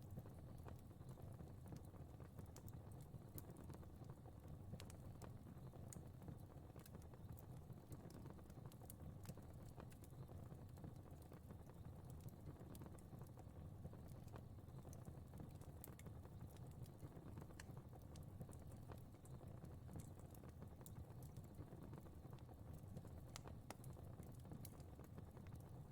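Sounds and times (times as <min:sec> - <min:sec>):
low rumble of flames: 0:00.0 - 0:25.9
fire crackling: 0:00.1 - 0:25.9.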